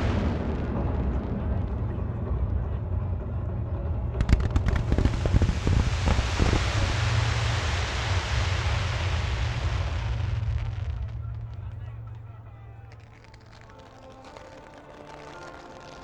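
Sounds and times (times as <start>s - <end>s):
fireworks popping: 0.0s - 2.7s, 4.2s - 16.0s
fireworks rumbling and crackling: 0.0s - 16.0s.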